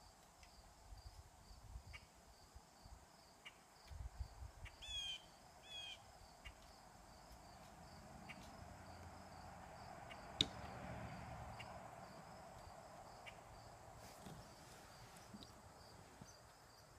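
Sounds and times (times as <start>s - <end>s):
insects chirping: 0.0s - 16.9s.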